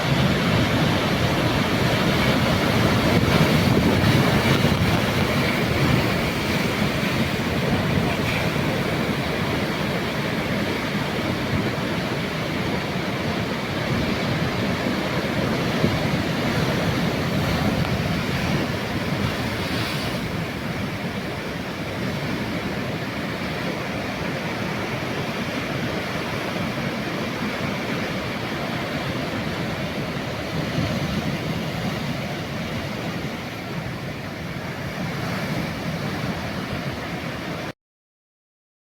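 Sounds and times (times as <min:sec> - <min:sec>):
sea waves breaking on shore: 0:00.0 - 0:37.7.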